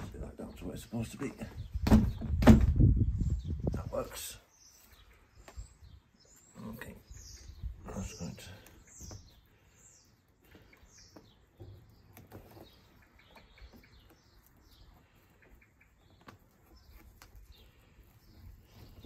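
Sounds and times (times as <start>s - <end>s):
faint birdsong chirps: 0.0s - 19.0s.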